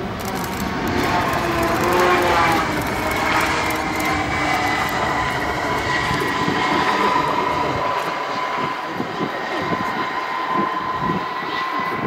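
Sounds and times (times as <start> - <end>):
jet engine whine and rumble: 0.0 - 12.0.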